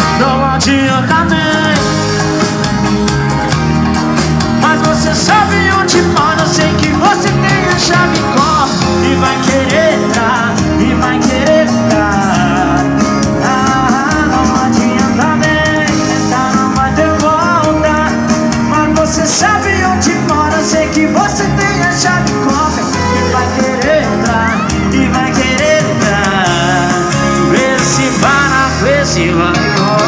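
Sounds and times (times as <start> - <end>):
live band music: 0.0 - 30.0
person singing: 0.0 - 30.0.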